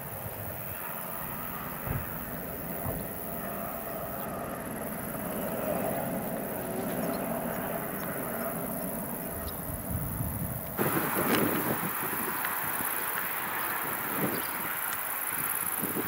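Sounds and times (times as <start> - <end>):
distant helicopter drone: 0.0 - 16.0.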